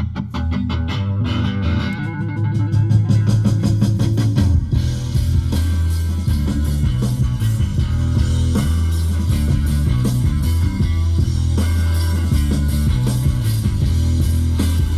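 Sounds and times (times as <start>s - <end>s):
rock music with heavy bass: 0.0s - 14.9s.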